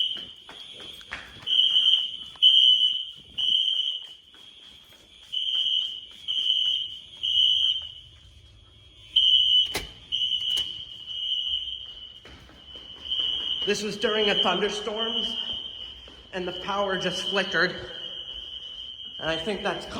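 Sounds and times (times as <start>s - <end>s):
fire alarm high-pitched beeps: 0.0s - 19.9s.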